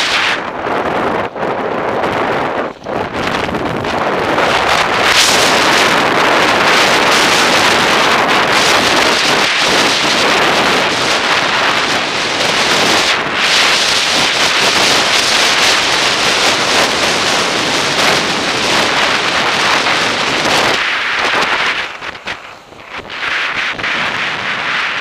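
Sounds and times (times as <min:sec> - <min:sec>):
skis scraping over snow: 0:00.0 - 0:25.0
wind buffeting microphone: 0:00.0 - 0:25.0.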